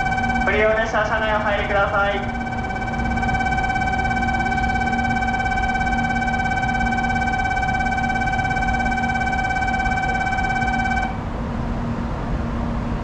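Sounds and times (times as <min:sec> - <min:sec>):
electronic platform bell ringing: 0:00.0 - 0:11.2
low steady hum: 0:00.0 - 0:13.0.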